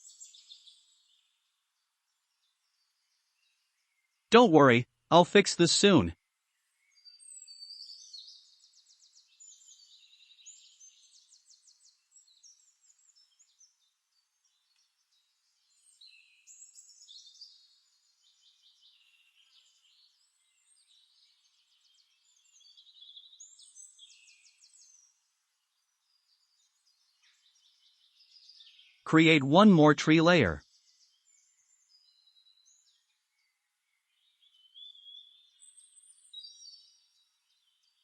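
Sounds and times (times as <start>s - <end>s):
faint birdsong trills and chirps: 0.0s - 4.3s, 6.2s - 29.0s, 30.6s - 38.0s.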